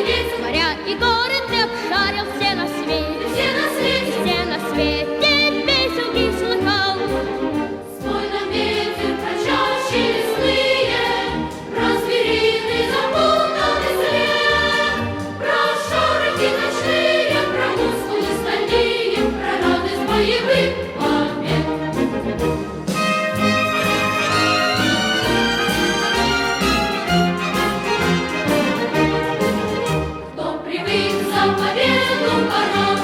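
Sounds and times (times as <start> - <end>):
choir singing: 0.0 - 22.8, 23.8 - 33.0
instrumental accompaniment: 0.0 - 33.0.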